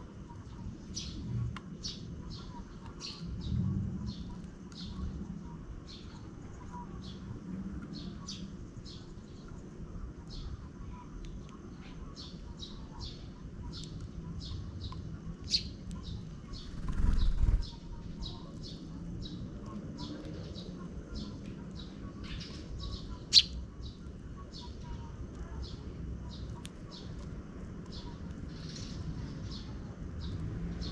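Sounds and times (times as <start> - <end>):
sparrows chirping: 0.2 - 30.9.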